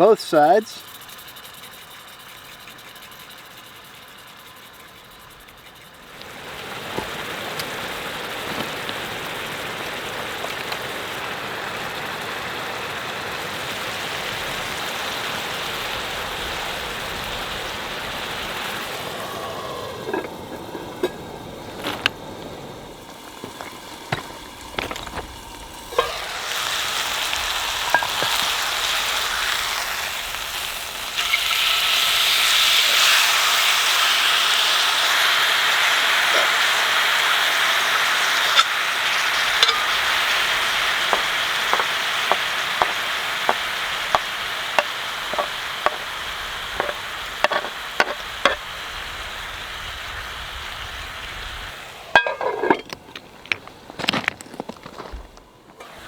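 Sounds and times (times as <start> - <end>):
steak sizzling in a skillet: 0.0 - 52.8.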